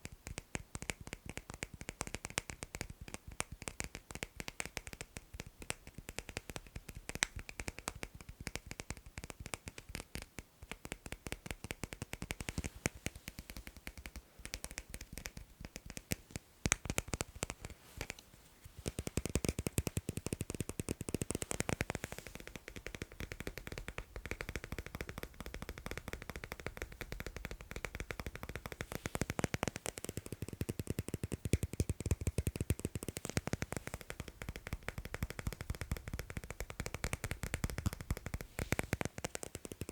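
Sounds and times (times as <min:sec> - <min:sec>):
rapid tapping clicks on magnets: 0:00.0 - 0:18.2, 0:18.8 - 0:39.9.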